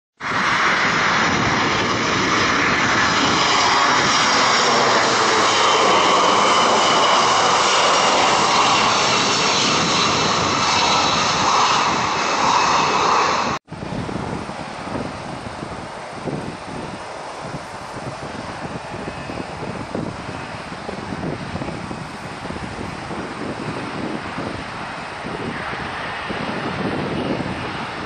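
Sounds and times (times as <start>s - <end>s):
jet airliner passing overhead: 0.2s - 28.0s
high fan whine: 0.3s - 28.0s.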